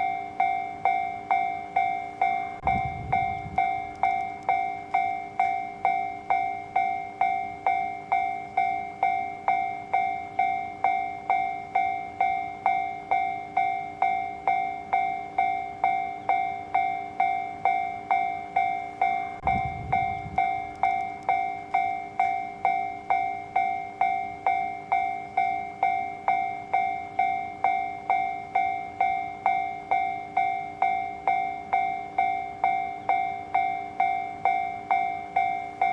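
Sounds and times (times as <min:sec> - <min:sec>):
level-crossing alarm bell: 0:00.0 - 0:35.9.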